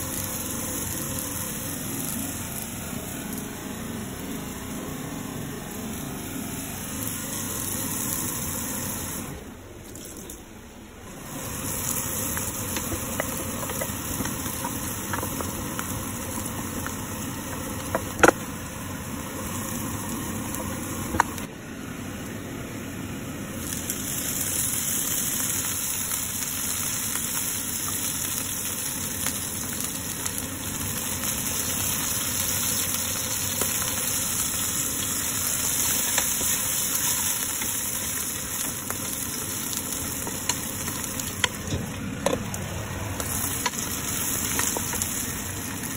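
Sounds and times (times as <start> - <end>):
food sizzling in frying pan: 0.0 - 9.4, 11.1 - 21.5, 23.1 - 45.9.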